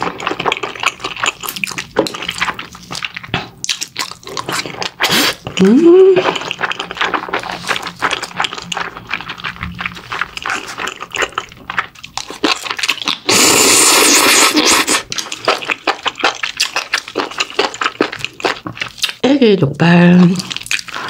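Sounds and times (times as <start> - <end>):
person chewing wetly: 0.0 - 19.2, 20.3 - 21.0.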